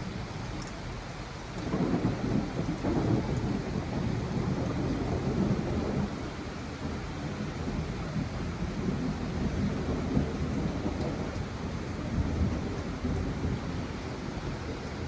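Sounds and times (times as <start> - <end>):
heavy rain on foliage: 0.0 - 15.0.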